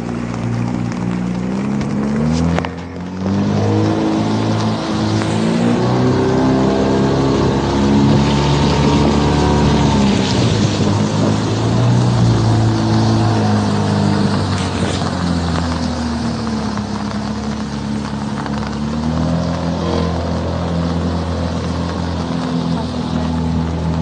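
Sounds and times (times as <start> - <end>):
outboard engine running: 0.0 - 24.0.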